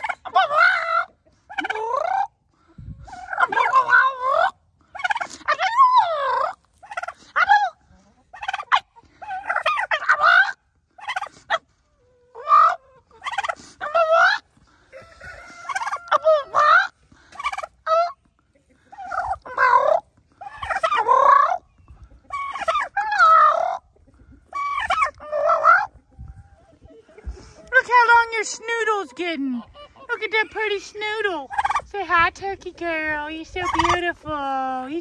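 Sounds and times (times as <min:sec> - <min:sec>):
turkey calling: 0:00.0 - 0:02.3, 0:03.1 - 0:27.7, 0:28.4 - 0:31.9, 0:33.6 - 0:34.1.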